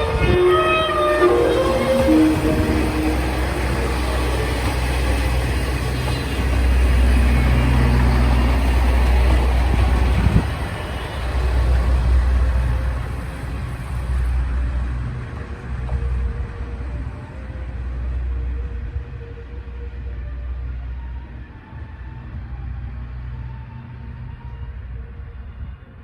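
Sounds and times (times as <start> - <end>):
diesel train passing rumble: 0.0 - 26.0.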